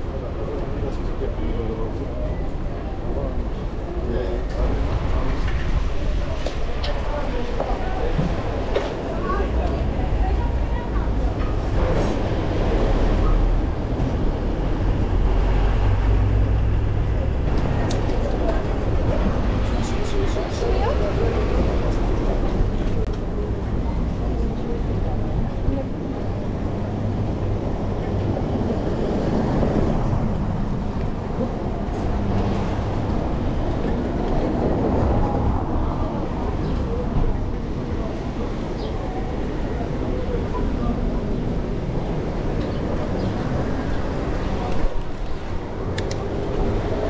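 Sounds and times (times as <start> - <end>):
road noise: 0.0 - 47.0
traffic: 0.0 - 47.0
wind rumble on microphone: 0.0 - 47.0.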